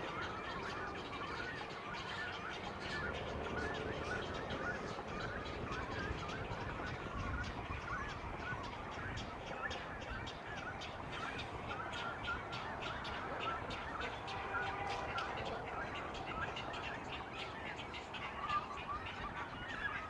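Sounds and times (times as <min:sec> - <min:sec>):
birds calling in a colony: 0:00.0 - 0:20.0.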